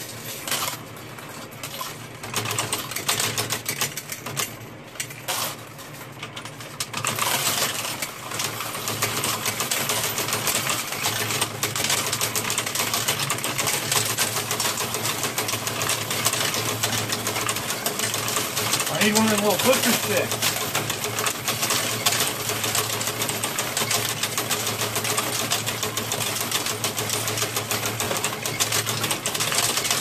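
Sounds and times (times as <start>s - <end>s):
coin sorter motor hum: 0.0s - 30.0s
coins clattering: 0.0s - 30.0s.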